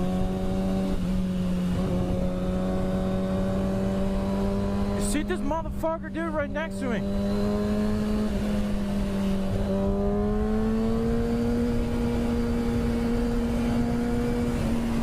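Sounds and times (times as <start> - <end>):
rush of riding wind: 0.0 - 5.9, 7.0 - 15.0
motorcycle engine running: 0.0 - 15.0.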